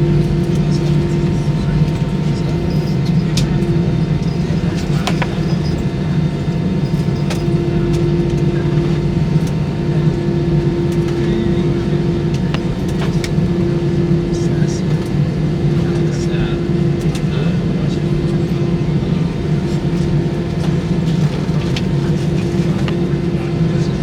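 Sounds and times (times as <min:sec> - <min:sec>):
aircraft cabin hum: 0:00.0 - 0:24.0.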